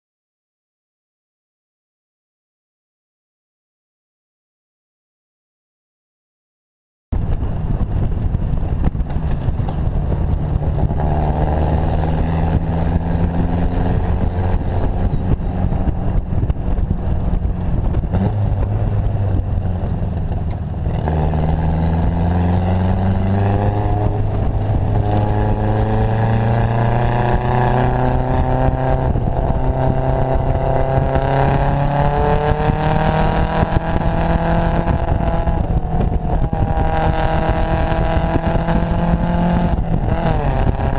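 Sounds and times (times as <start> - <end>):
car engine accelerating through gears: 7.2 - 40.9.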